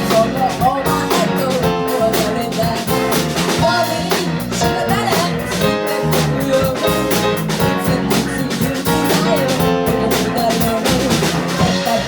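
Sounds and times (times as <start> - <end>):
bass guitar: 0.0 - 12.0
drum kit beat: 0.0 - 12.0.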